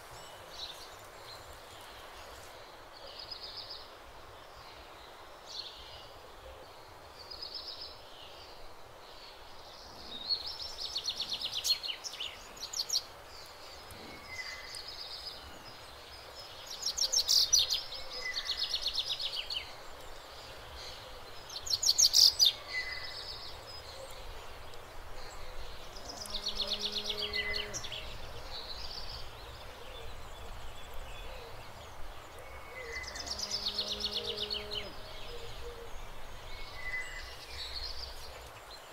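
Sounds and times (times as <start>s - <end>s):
songbirds trilling: 0.0s - 38.9s
steady outdoor hiss: 0.0s - 38.9s.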